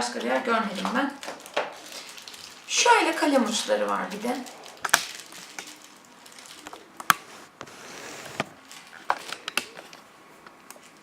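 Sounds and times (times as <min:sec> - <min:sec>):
packaging rustling: 0:01.2 - 0:10.0.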